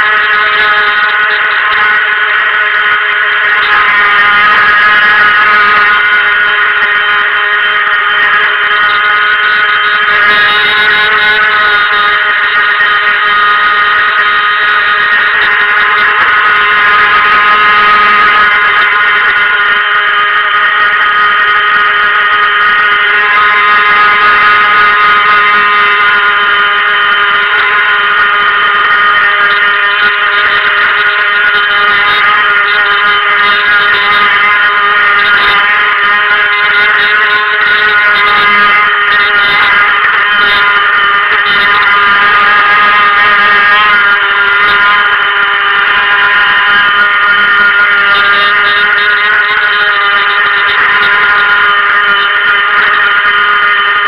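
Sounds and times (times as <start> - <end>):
electric motor whining: 0.0 - 54.0.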